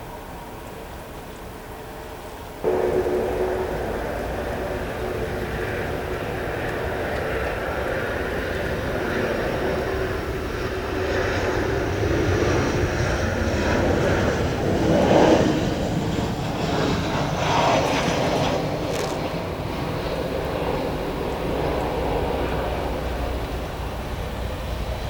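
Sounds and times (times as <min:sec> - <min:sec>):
jet engines landing: 0:00.0 - 0:25.0.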